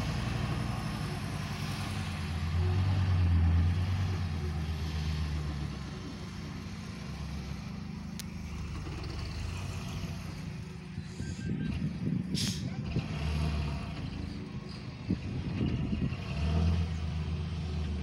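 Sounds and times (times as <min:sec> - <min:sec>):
dump truck diesel engine: 0:00.0 - 0:18.0.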